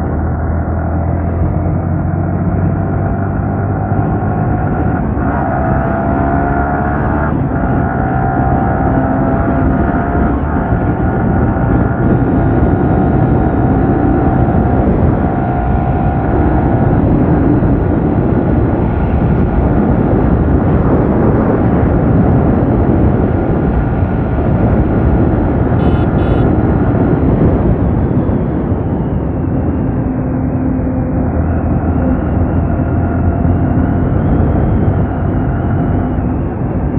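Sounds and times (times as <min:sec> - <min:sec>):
wind rush over microphone: 0:00.0 - 0:36.9.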